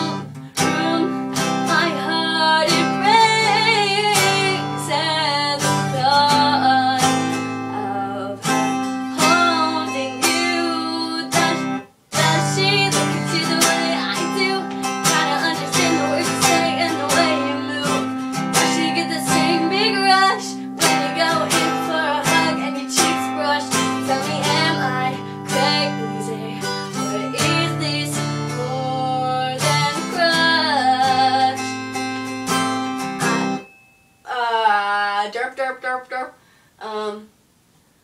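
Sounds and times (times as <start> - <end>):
young woman singing: 0.0 - 31.8, 33.2 - 33.6, 34.3 - 36.2
acoustic guitar strumming: 0.0 - 34.8.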